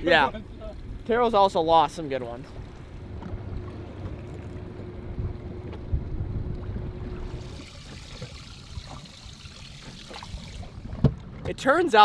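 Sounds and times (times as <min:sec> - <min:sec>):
wind buffeting microphone: 0:00.0 - 0:11.5
water lapping against boat hull: 0:00.2 - 0:11.7.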